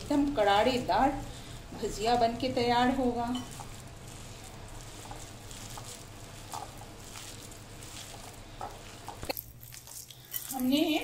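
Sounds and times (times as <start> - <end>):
hand squishing onion batter: 0.0 - 11.0.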